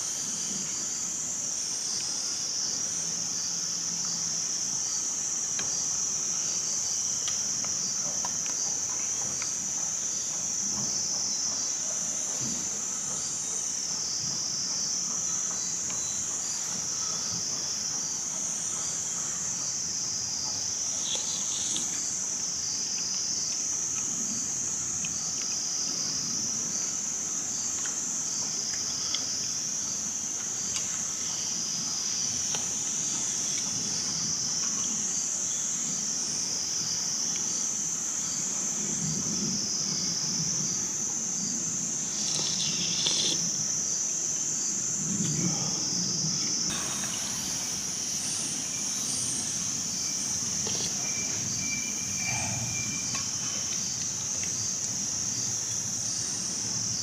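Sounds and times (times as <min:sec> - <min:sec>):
insects chirping: 0:00.0 - 0:57.0.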